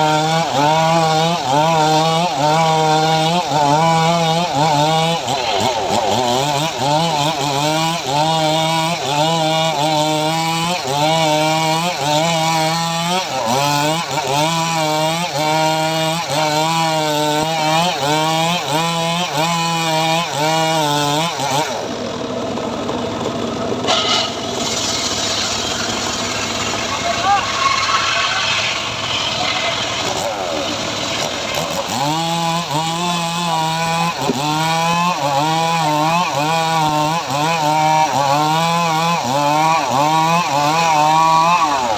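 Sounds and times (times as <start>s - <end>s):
chainsaw engine cutting wood: 0.0s - 41.9s.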